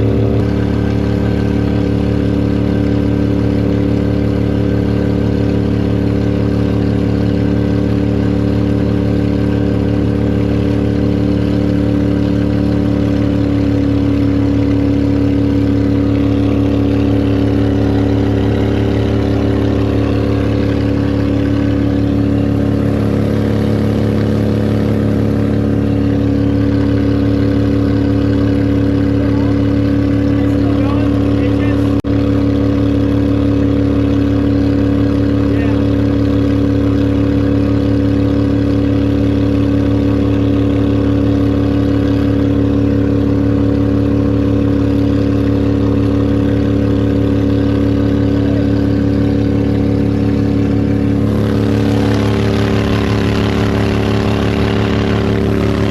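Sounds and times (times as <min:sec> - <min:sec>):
boat motor running: 0:00.0 - 0:55.9.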